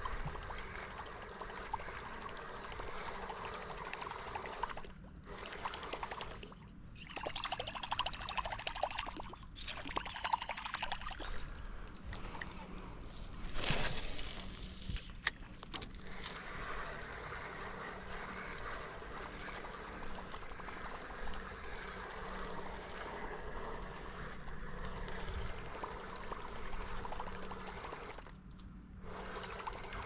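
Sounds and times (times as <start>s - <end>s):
water trickling and lapping: 0.0s - 30.0s.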